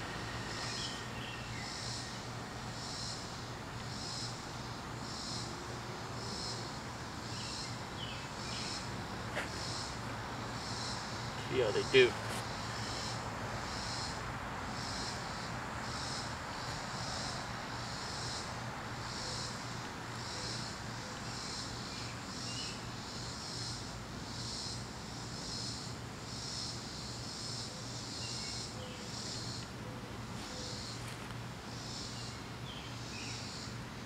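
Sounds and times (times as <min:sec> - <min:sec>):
high-pitched insect calls: 0:00.0 - 0:29.8, 0:30.4 - 0:33.8
background hiss: 0:00.0 - 0:34.0.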